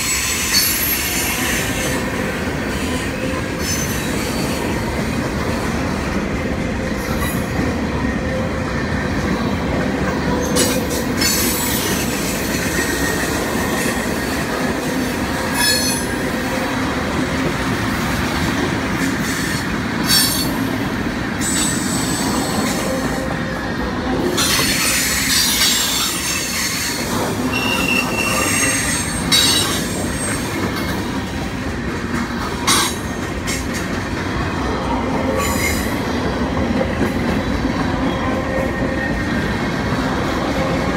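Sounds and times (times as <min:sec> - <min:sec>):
freight train cars rumbling: 0:00.0 - 0:40.9
wheels squealing on rails: 0:00.0 - 0:40.9.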